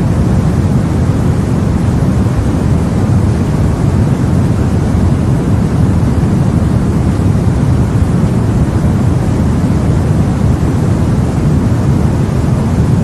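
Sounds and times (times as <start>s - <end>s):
low white noise: 0.0s - 13.0s.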